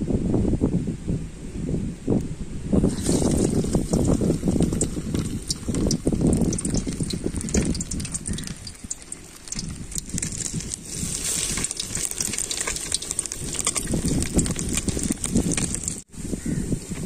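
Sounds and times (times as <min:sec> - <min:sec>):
fish deep-frying in hot oil: 0:02.8 - 0:16.6.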